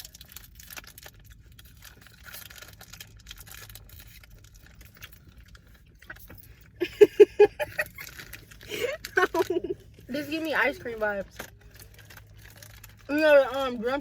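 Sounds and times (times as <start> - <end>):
snack packaging crinkling: 0.0 - 6.8, 7.6 - 14.0.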